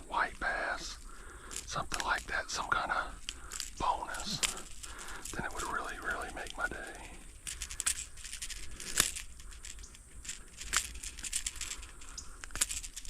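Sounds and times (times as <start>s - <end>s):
crinkling handling noise: 0.0s - 13.0s.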